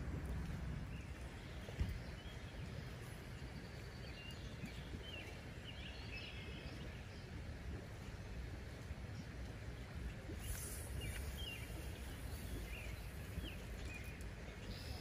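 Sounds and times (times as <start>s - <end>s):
low wind rumble on microphone: 0.0s - 15.0s.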